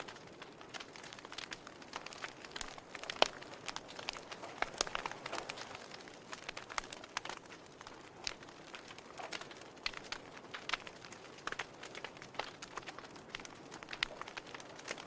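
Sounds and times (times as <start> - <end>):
fire pops: 0.0 - 15.0
wood fire crackling: 0.0 - 15.0.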